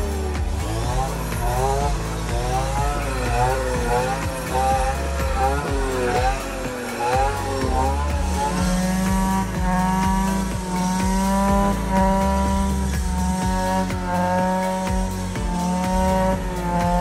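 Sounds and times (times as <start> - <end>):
background music with steady beat: 0.0 - 17.0
brush cutter cutting weeds: 0.0 - 17.0.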